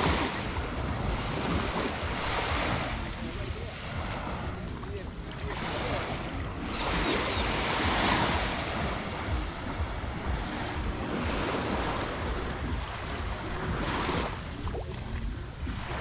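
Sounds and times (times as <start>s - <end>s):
small waves washing on sand: 0.0s - 16.0s
wind rumbling on microphone: 0.0s - 16.0s.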